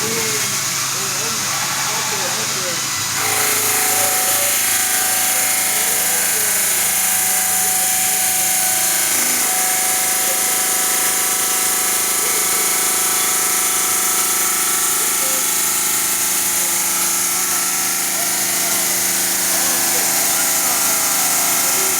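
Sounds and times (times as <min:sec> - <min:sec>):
granite cutting machine running: 0:00.0 - 0:21.9.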